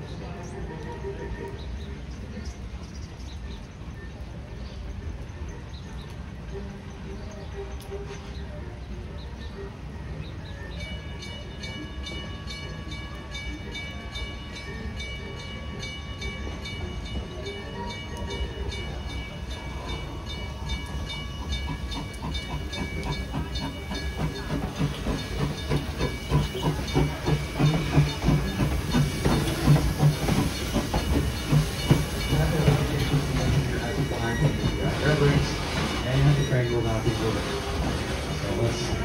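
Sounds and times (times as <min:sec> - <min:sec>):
steam locomotive hissing: 0:06.2 - 0:39.0.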